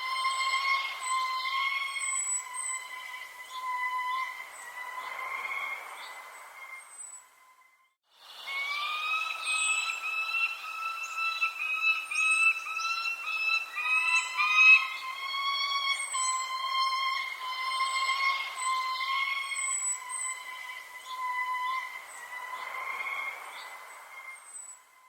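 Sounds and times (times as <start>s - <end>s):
long steady whistling tones: 0.0s - 25.0s
small birds chirping: 0.1s - 7.7s, 8.3s - 25.0s.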